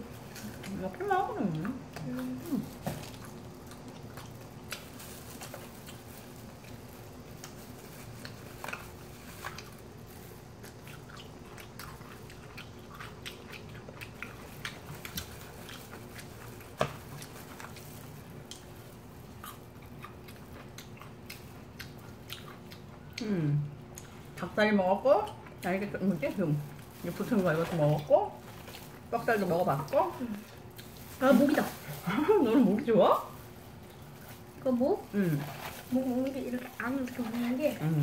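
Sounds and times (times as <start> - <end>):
chewing crispy chicken: 0.0 - 38.0
faint steady hum: 0.0 - 38.0.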